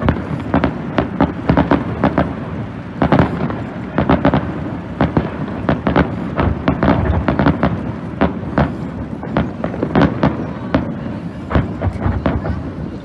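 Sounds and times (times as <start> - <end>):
fireworks bangs and cracks: 0.0 - 13.0
low rumble of bursts: 0.0 - 13.0.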